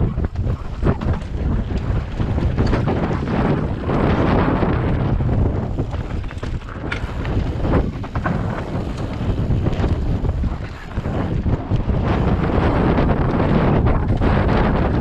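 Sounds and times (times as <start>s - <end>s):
bike knocks and rattles: 0.0s - 15.0s
tyres rumbling on dirt trail: 0.0s - 15.0s
wind buffeting microphone: 0.0s - 15.0s.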